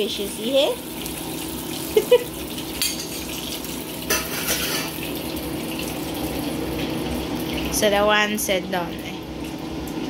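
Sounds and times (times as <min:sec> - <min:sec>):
hot oil sizzling in a frying pan: 0:00.0 - 0:10.0.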